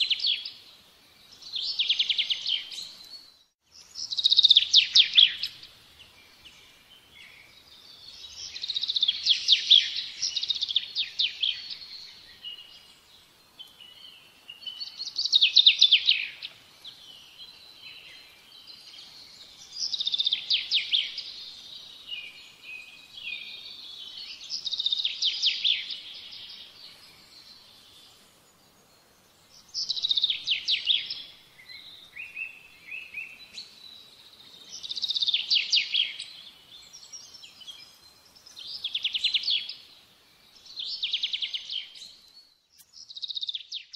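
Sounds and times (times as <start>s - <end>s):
soft bird chirps: 0.0s - 43.9s.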